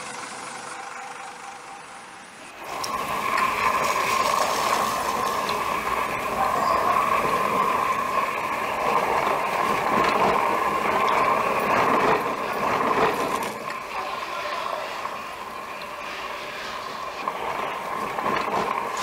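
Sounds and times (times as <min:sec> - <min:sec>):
hose spraying water: 0:02.5 - 0:19.0.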